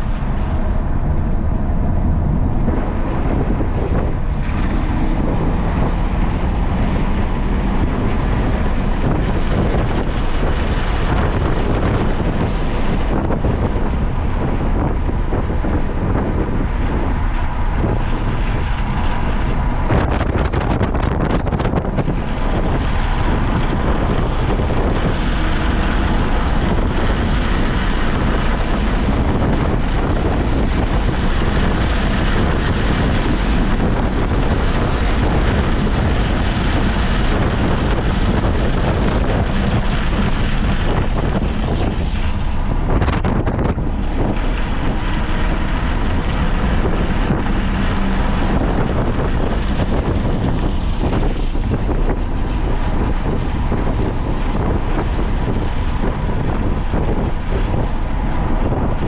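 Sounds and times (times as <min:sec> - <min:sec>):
car engine running hard: 0:00.0 - 0:59.0
wind and road noise: 0:00.0 - 0:59.0.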